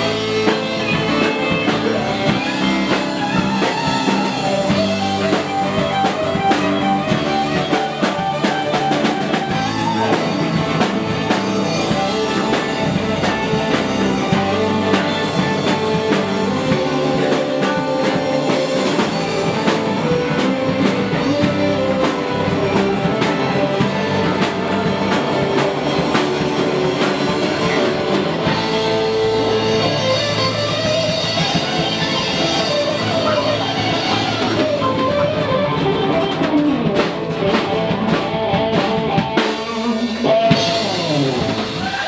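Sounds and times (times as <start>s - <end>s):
live pop-rock band: 0.0s - 42.0s.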